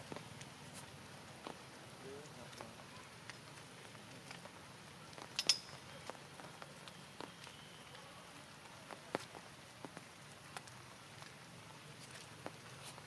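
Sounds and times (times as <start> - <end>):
drips and ticks: 0.0 - 13.0
rain hissing: 0.0 - 13.0.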